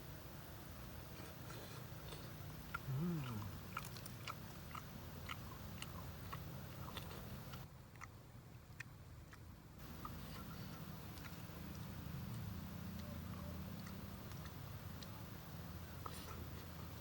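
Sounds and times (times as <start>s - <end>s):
person chewing crunchy food: 1.2s - 17.0s.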